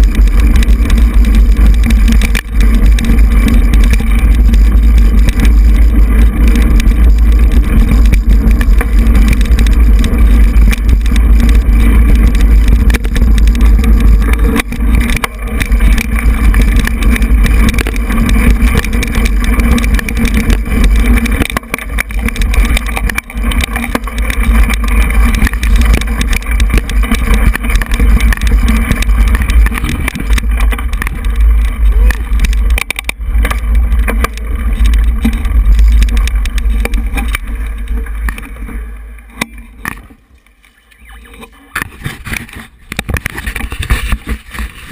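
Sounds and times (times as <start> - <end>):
bike rattles and knocks: 0.0 - 44.9
wind rumble on microphone: 0.0 - 44.9.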